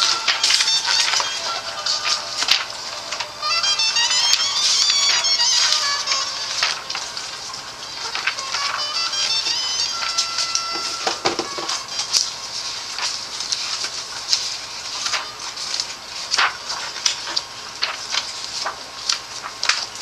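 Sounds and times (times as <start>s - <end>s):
magazine pages turning: 0.0s - 20.0s.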